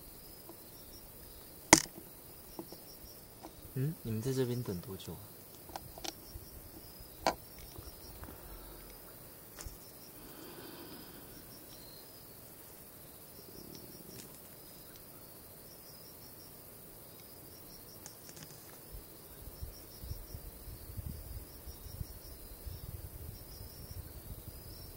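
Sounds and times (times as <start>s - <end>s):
insects chirping: 0.0s - 24.9s.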